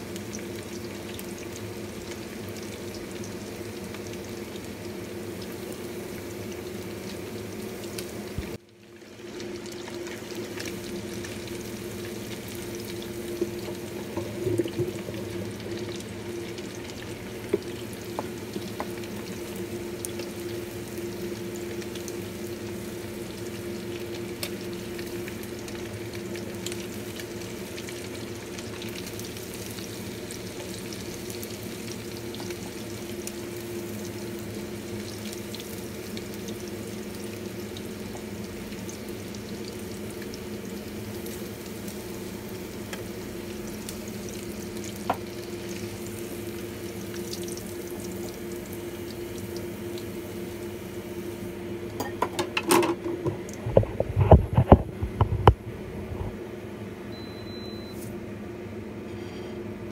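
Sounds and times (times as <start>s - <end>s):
oil sizzling and bubbling: 0.0s - 59.8s.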